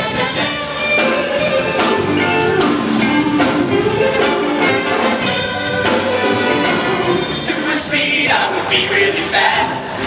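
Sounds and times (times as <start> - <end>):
brass-led show tune band music: 0.0 - 10.0.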